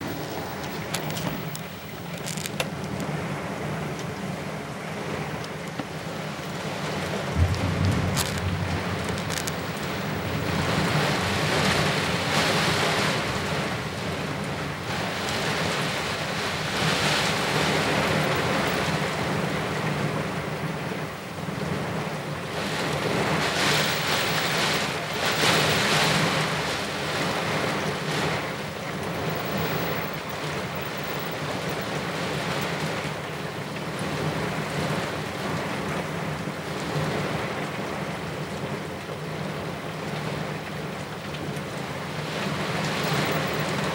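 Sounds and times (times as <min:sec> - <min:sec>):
gusting wind: 0:00.0 - 0:43.9
heavy rain: 0:00.0 - 0:43.9.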